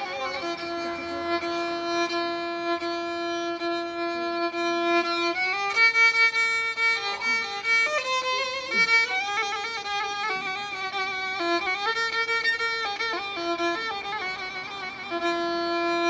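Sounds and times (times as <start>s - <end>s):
solo violin melody: 0.0s - 16.0s.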